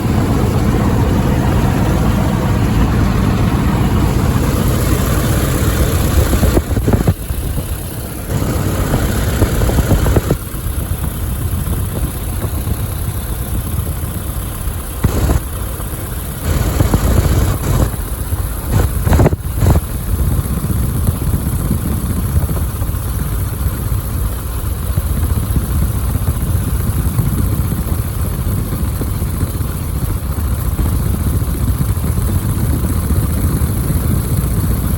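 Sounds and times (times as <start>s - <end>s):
piston aircraft engine running: 0.0s - 34.9s.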